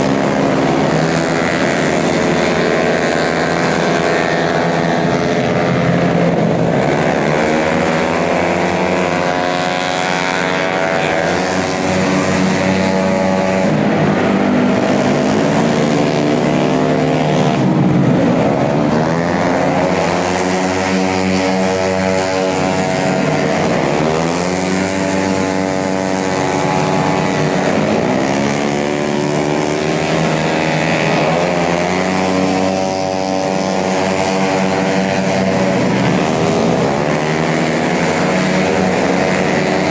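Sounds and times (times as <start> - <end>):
scooter engines revving past: 0.0 - 39.9.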